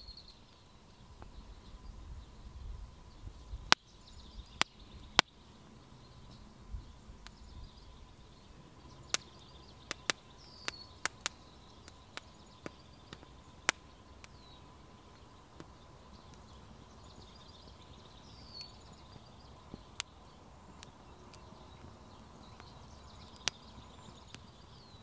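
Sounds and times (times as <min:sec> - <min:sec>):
faint bird chirps: 0:00.0 - 0:25.0
wood fire crackling: 0:00.0 - 0:25.0.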